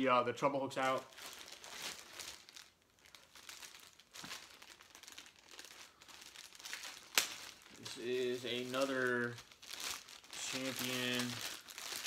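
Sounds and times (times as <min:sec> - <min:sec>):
plastic sleeve crinkling: 0:00.7 - 0:12.0.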